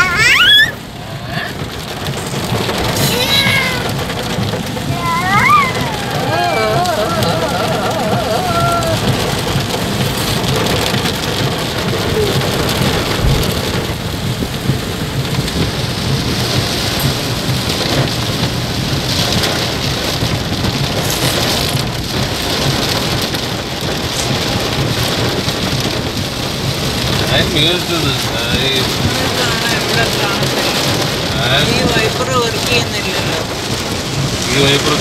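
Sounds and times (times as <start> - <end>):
heavy rain on a car: 0.0 - 35.0.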